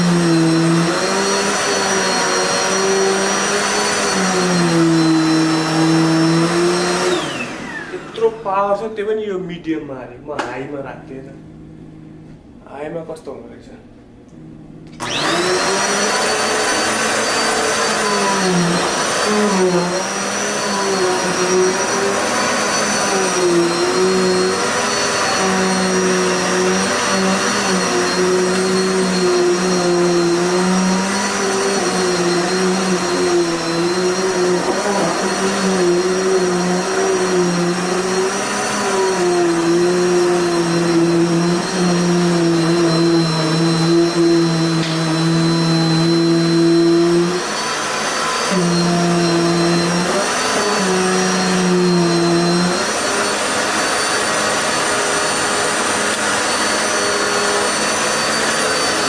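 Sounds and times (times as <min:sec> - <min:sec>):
vacuum cleaner motor whine: 0:00.0 - 0:08.8, 0:14.4 - 0:59.0.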